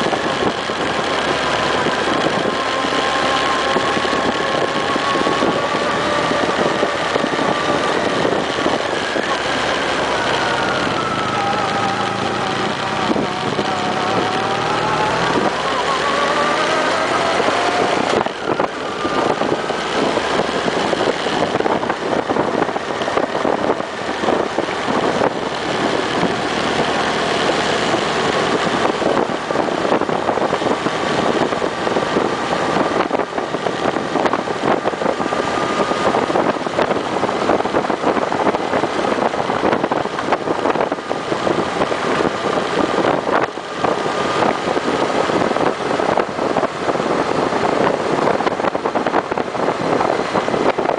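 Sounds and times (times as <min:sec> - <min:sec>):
motorcycle engine running: 0:00.0 - 0:50.9
wind over microphone: 0:00.0 - 0:50.9.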